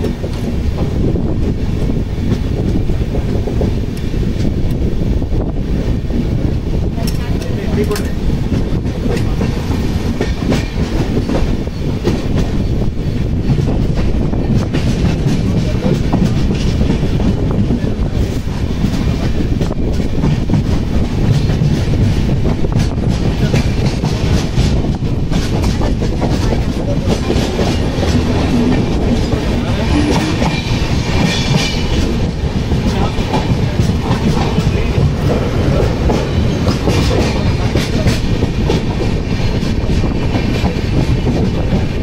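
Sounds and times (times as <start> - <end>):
train coach rumbling: 0.0 - 42.0
wheels clacking over rail joints: 7.0 - 12.8, 13.4 - 42.0.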